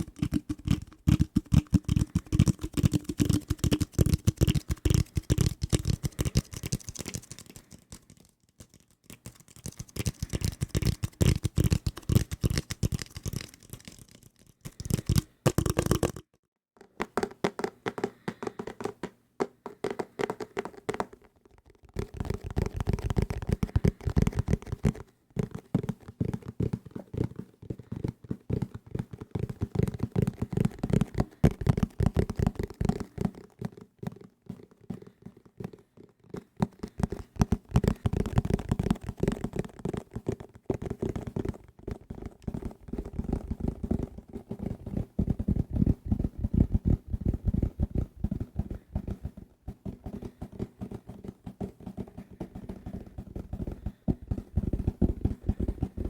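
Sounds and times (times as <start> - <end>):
fast tapping on desk objects: 0.0 - 56.0.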